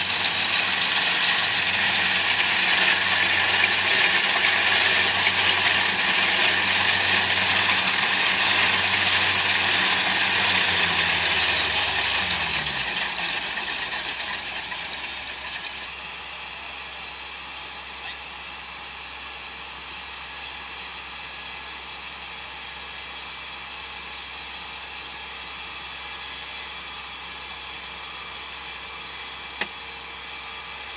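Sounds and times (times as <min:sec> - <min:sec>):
combine harvester running: 0:00.0 - 0:30.9.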